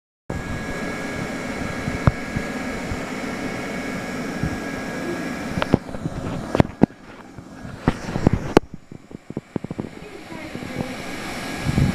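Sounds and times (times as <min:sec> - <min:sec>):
hot-air welding gun blower: 0:00.3 - 0:11.9.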